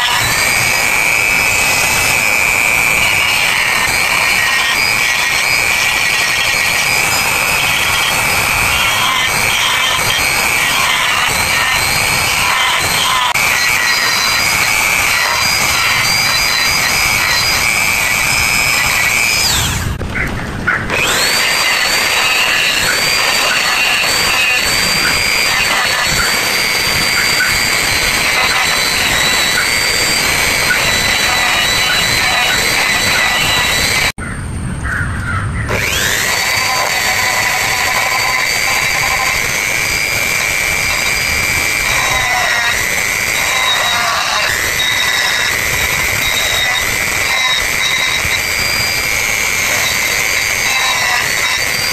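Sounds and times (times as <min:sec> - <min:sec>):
die grinder whining: 0:00.0 - 0:34.2, 0:35.7 - 0:51.9.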